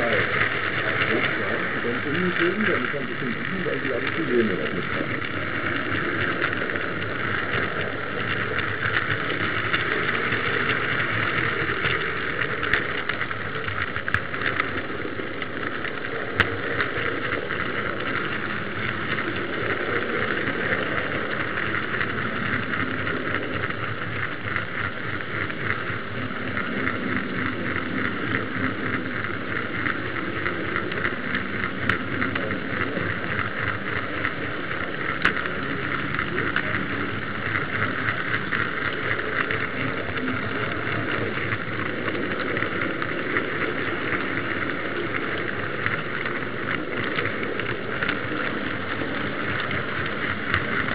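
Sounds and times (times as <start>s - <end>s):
model tram motor whirring: 0.0s - 50.9s.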